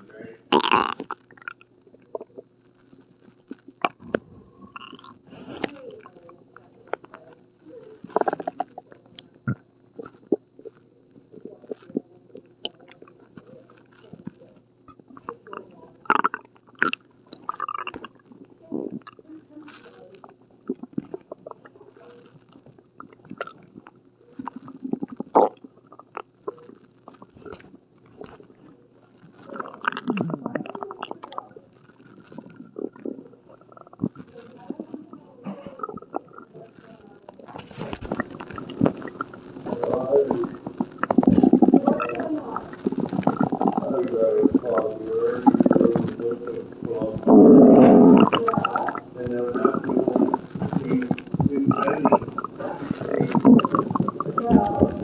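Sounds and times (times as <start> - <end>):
stomach growling and gurgling: 0.0 - 55.0.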